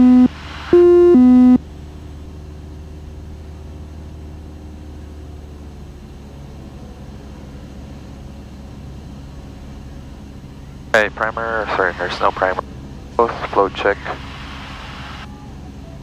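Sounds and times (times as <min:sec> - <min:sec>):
aircraft engine and propeller drone: 0:00.2 - 0:16.0.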